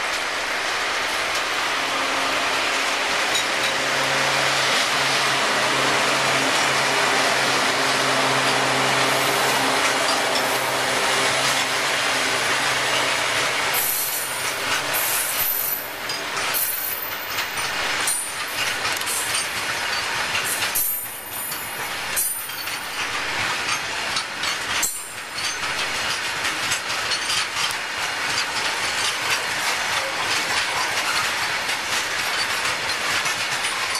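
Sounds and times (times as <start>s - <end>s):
freight train running noise: 0.0s - 33.9s
wheels clattering over rail joints: 2.9s - 33.9s.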